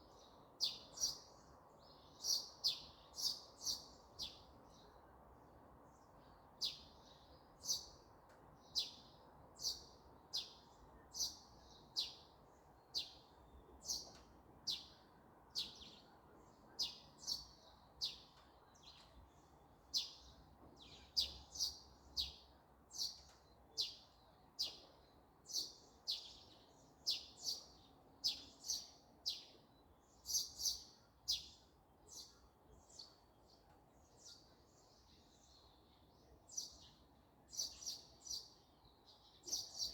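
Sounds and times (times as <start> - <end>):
faint background hiss: 0.0 - 39.9
songbird chirping: 0.0 - 39.9.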